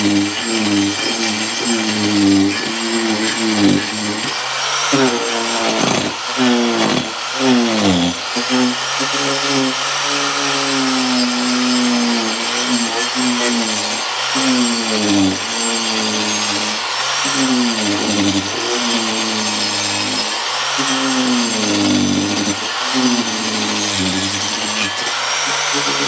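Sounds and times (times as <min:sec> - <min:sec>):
power tool cutting wood: 0:00.0 - 0:26.0.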